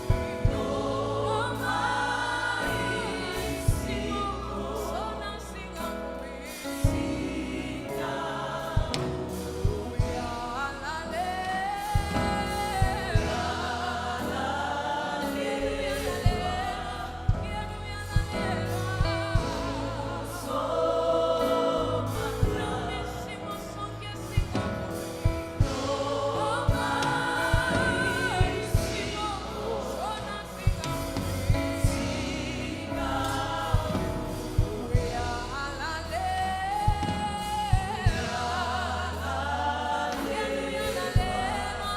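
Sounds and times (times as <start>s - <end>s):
choir singing gospel: 0.0s - 41.9s
steady bass: 0.0s - 41.9s.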